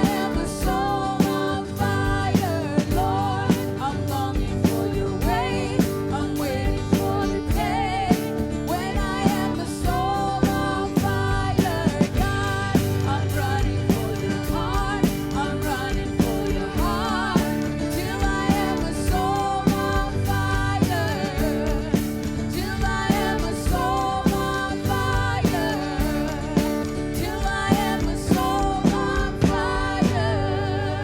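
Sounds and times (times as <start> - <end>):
person singing: 0.0 - 31.0
steady drum beat: 0.0 - 31.0
worship band playing: 0.0 - 31.0.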